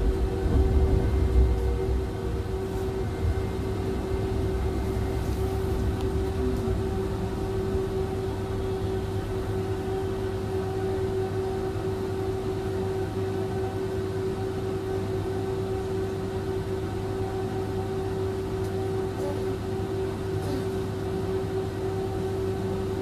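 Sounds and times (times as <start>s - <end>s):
tram electrical hum: 0.0s - 23.0s.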